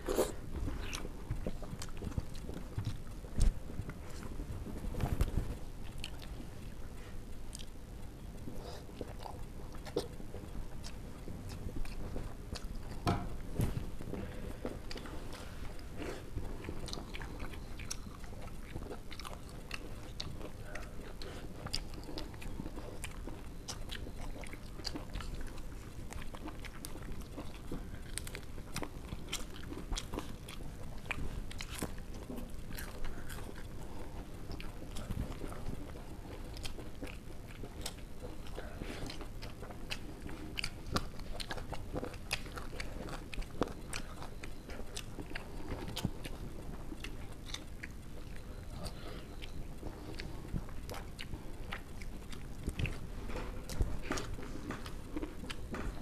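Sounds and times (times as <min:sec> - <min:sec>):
chewing with wet smacks: 0:00.0 - 0:56.0
low background noise: 0:00.0 - 0:56.0.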